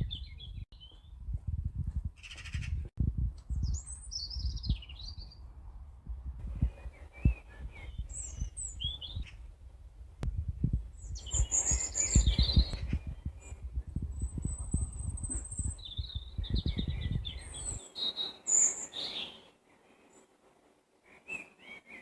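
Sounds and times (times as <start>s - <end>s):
songbirds singing: 0.0s - 1.3s, 2.1s - 19.6s
low rumbling thumps: 0.0s - 17.8s.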